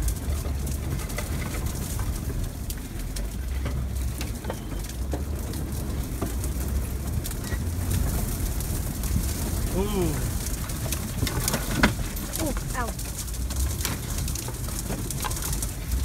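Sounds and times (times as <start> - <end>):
car cabin low rumble: 0.0 - 16.0
knocks and rattles: 0.0 - 16.0.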